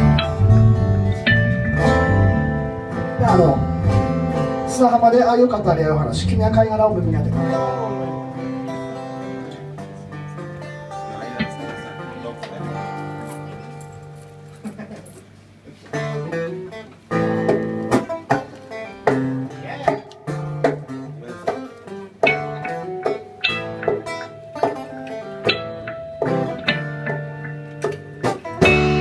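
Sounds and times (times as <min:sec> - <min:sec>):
guitar plucked notes: 0:00.0 - 0:14.9, 0:15.9 - 0:29.0.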